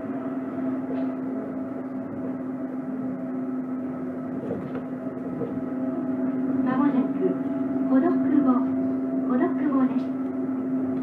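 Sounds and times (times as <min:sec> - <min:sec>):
train motor hum from inside: 0:00.0 - 0:11.0.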